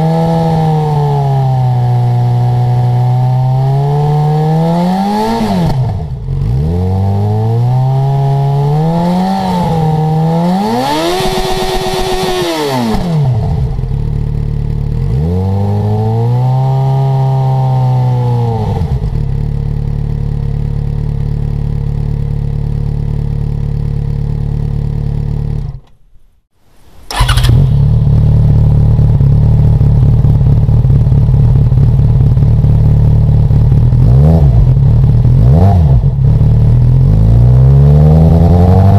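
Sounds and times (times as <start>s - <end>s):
motorcycle engine revving and idling: 0.0s - 26.0s, 27.1s - 38.9s.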